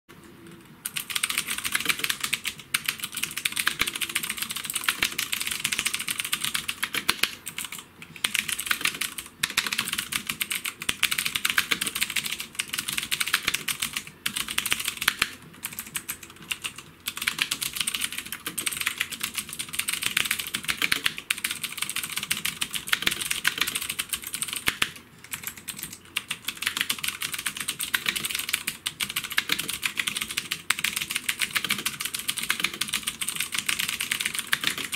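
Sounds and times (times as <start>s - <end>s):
mechanical keyboard typing: 0.5s - 34.9s.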